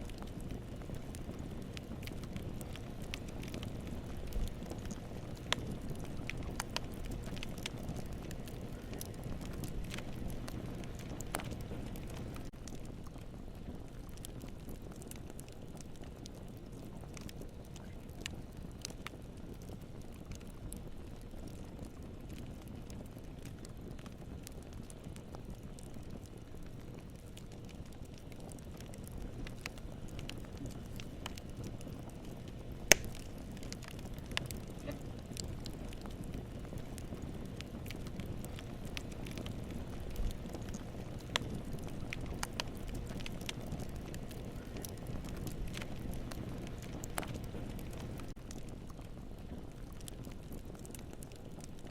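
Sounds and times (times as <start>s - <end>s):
campfire wood crackling: 0.0s - 51.9s
low steady rumble: 0.0s - 51.9s.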